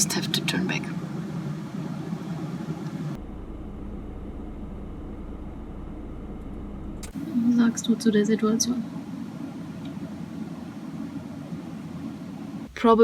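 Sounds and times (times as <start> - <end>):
car engine rumble from inside: 0.0 - 12.7.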